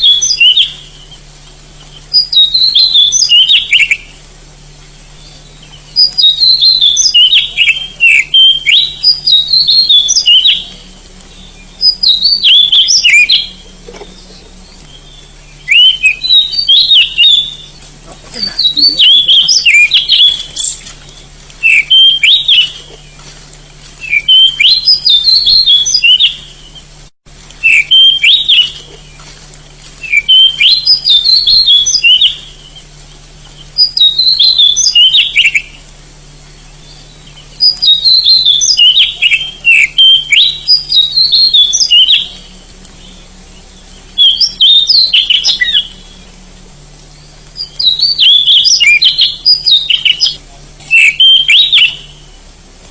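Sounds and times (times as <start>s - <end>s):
bird singing whistled phrases: 0.0s - 1.2s, 1.9s - 4.1s, 5.2s - 23.2s, 24.0s - 26.8s, 27.6s - 29.2s, 30.0s - 32.9s, 33.6s - 35.8s, 36.8s - 43.3s, 44.2s - 46.2s, 47.2s - 52.4s.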